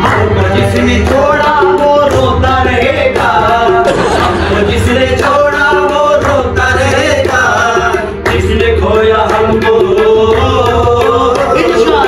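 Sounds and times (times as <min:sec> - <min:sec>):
men singing: 0:00.0 - 0:12.0
tabla drumming: 0:00.0 - 0:12.0.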